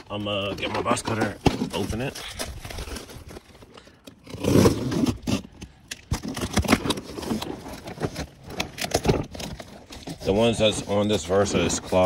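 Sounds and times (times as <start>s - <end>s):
cardboard box cut and torn open: 0.0s - 12.0s.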